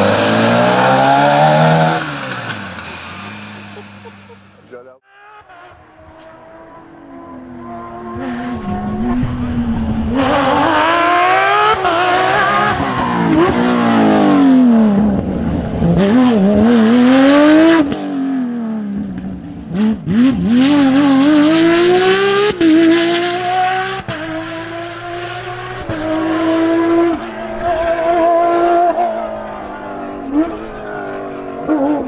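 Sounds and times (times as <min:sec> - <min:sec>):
car engine revving hard: 0:00.0 - 0:04.2, 0:05.2 - 0:19.0, 0:19.7 - 0:32.0.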